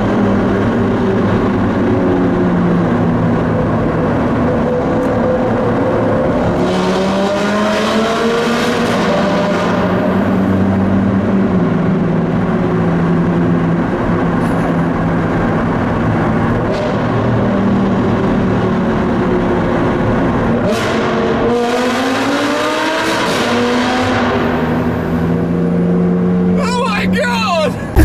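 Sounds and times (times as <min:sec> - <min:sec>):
sports car engines: 0:00.0 - 0:28.0.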